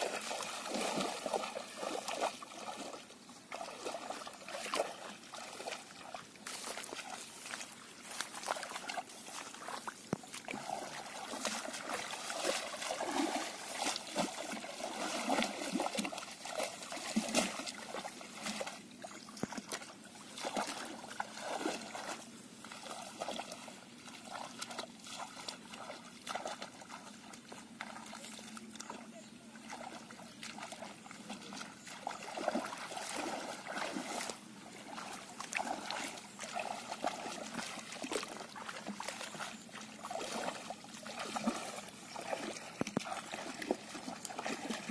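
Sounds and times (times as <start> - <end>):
feet wading through shallow water: 0.0 - 44.9.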